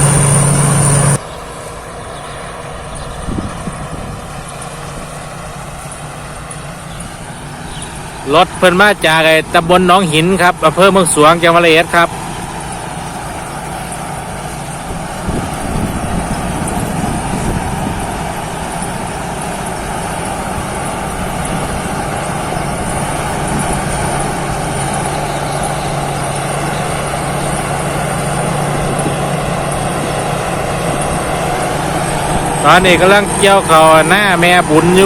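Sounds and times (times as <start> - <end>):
combine harvester engine droning: 0.0 - 35.0.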